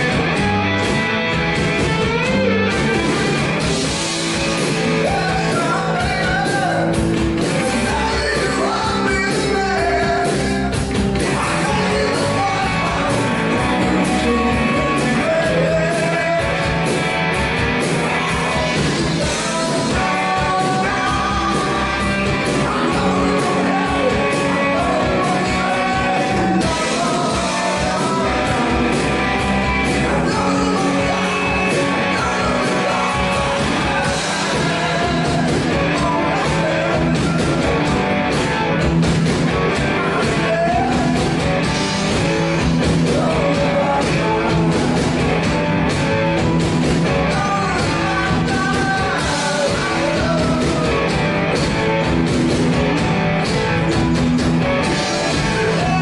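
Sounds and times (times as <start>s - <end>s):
live rock band playing: 0.0s - 56.0s
person singing: 4.6s - 16.8s, 17.9s - 38.8s, 39.6s - 45.5s, 47.2s - 52.1s, 54.8s - 56.0s.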